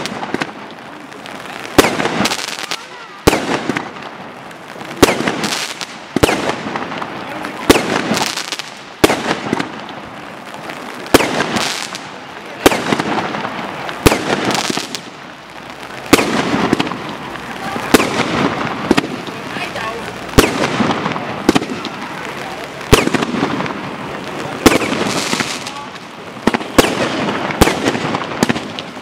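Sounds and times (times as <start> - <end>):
aerial fireworks bursting: 0.0 - 29.0.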